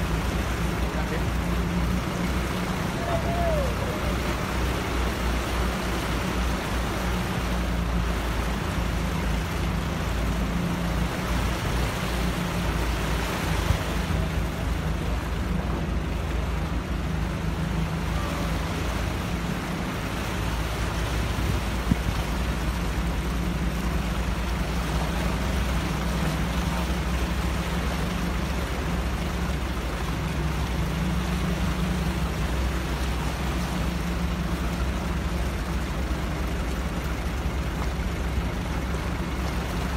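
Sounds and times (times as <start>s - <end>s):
heavy vehicle engine running: 0.0s - 39.9s
water rushing and splashing: 0.0s - 39.9s.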